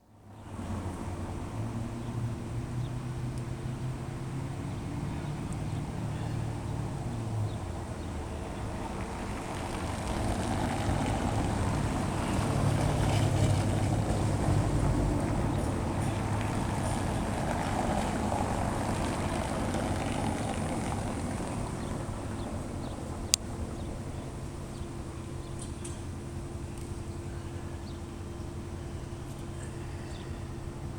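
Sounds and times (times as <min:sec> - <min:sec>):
low engine hum: 0:00.2 - 0:30.9
tyres rumbling over cobblestones: 0:03.5 - 0:28.7.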